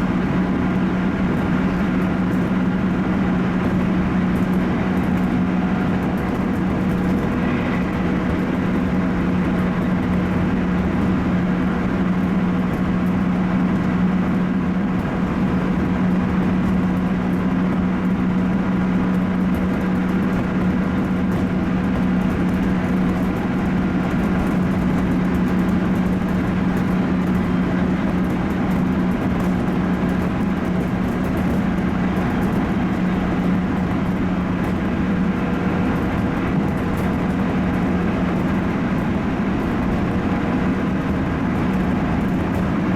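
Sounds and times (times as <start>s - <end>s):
electric train running hum: 0.0s - 42.9s
train rolling noise: 0.0s - 42.9s.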